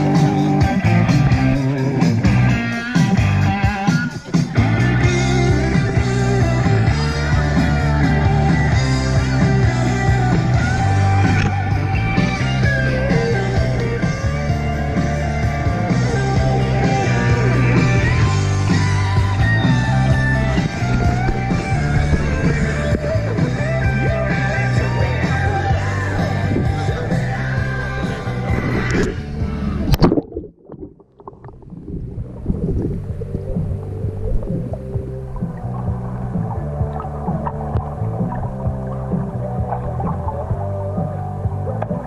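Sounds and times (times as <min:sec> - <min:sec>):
rock music with guitar and bass: 0:00.0 - 0:30.2, 0:32.2 - 0:42.0.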